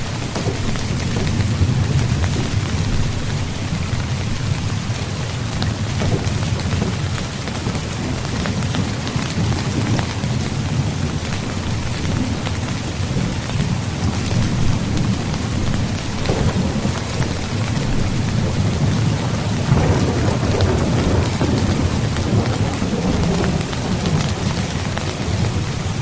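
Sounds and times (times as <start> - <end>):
heavy rain on a tent: 0.0 - 26.0.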